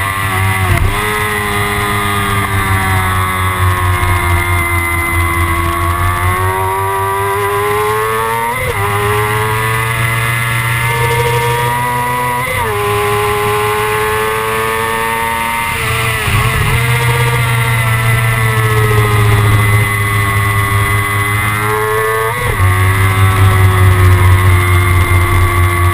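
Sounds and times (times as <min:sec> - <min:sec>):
motorcycle engine at high revs: 0:00.0 - 0:25.9.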